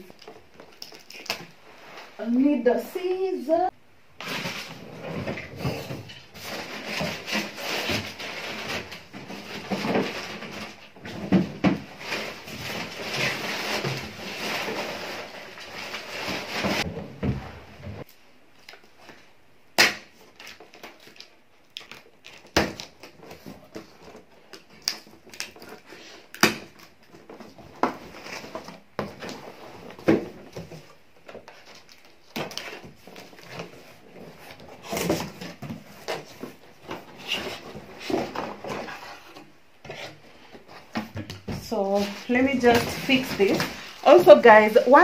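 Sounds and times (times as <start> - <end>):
cardboard and plastic rustling: 4.2 - 19.3, 20.1 - 45.0.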